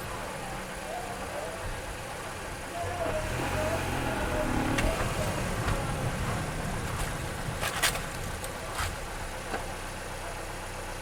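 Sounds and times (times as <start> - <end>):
tyres and running gear rumbling: 0.0 - 9.8.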